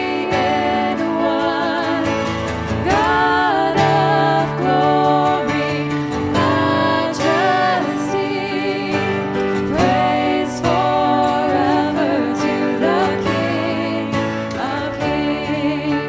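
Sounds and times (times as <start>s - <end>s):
guitar accompaniment: 0.0s - 16.0s
person singing: 0.0s - 16.0s.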